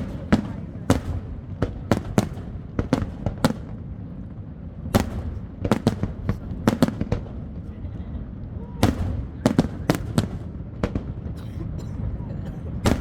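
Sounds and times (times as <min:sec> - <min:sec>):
fireworks bangs: 0:00.0 - 0:11.8, 0:12.7 - 0:13.0.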